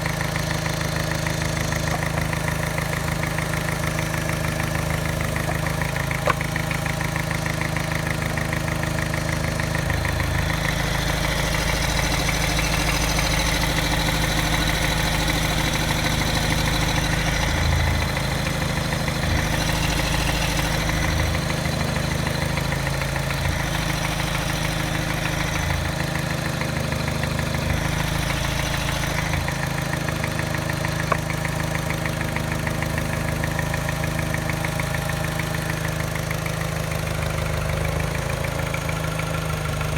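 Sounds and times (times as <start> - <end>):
car engine idling with tap: 0.0 - 39.9.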